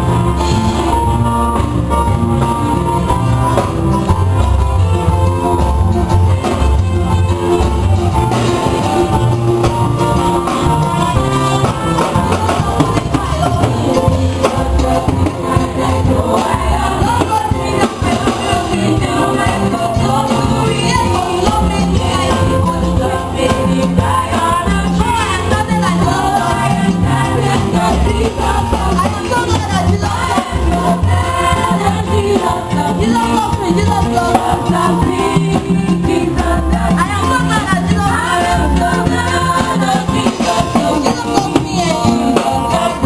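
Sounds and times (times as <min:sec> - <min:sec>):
loud music with steady bass line: 0:00.0 - 0:43.0
voices singing: 0:05.1 - 0:43.0.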